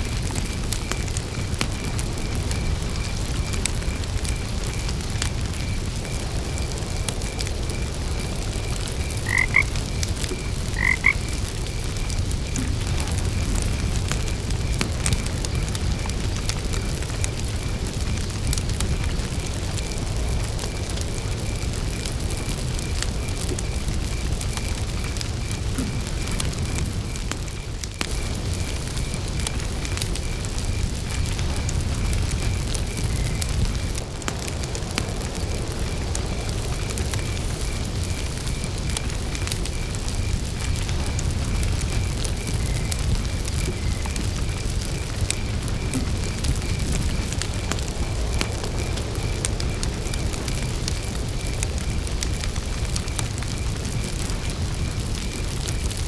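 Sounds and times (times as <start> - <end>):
campfire crackling: 0.0 - 56.0
crickets chirping: 0.0 - 56.0
fire low rumble: 0.0 - 56.0.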